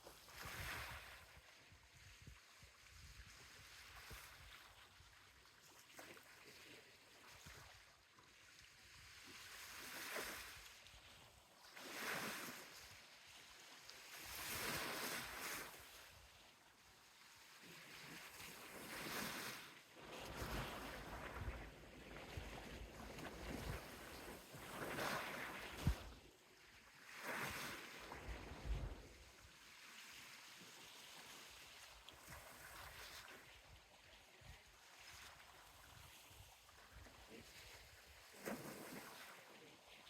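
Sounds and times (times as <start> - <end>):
small waves washing up beach: 0.0 - 40.0.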